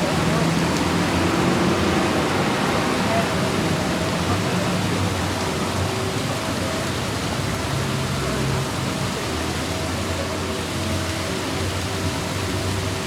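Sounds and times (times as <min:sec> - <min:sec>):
road and tyre rush: 0:00.0 - 0:13.0.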